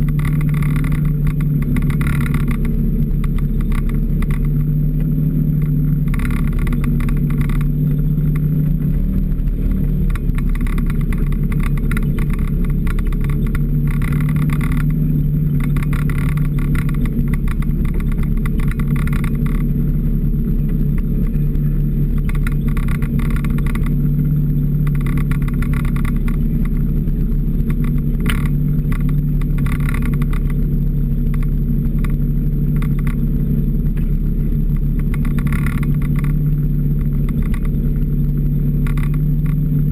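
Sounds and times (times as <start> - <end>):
high-pitched clatter: 0.0 - 4.8, 5.5 - 19.8, 22.1 - 33.3, 34.7 - 37.9, 38.7 - 39.8
snowmobile engine droning: 0.0 - 39.9.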